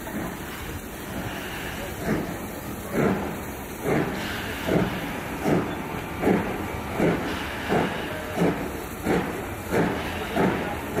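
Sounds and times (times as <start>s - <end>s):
steam hiss: 0.0s - 11.0s
steam locomotive exhaust beats: 0.0s - 11.0s.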